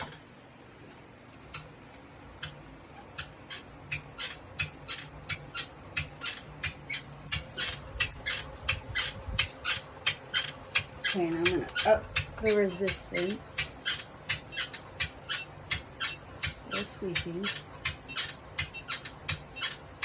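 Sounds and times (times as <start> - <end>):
exercise bike pedal squeaking: 1.4 - 20.0.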